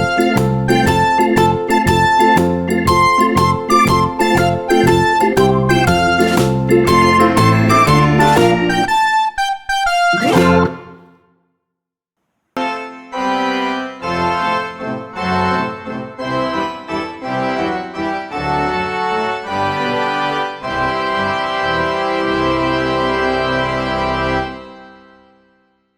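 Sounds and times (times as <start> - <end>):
organ-like keyboard chords: 0.0 - 11.2, 12.6 - 25.0.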